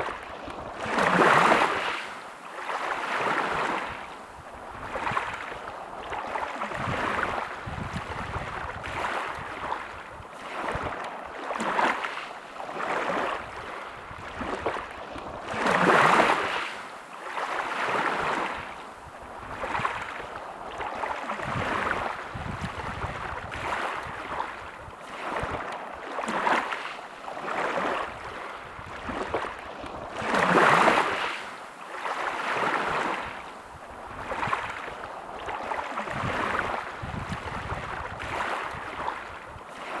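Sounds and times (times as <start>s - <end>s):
big waves breaking: 0.0s - 40.0s
surf washing onto beach: 0.0s - 40.0s.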